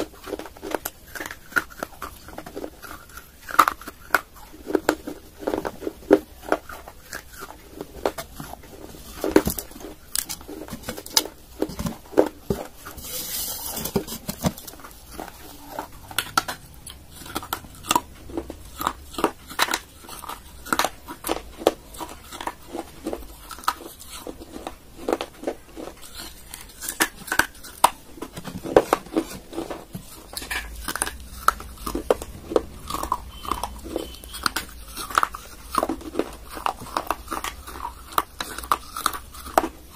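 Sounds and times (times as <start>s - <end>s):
clay being chewed crunching: 0.0s - 39.9s.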